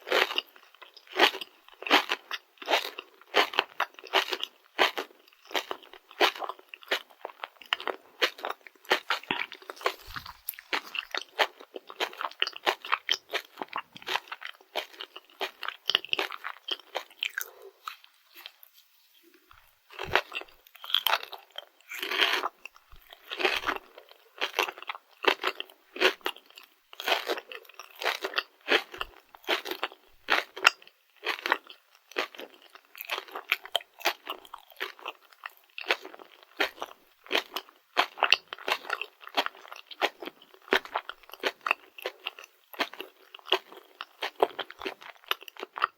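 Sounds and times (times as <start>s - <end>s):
crunchy chewing: 0.1s - 45.9s.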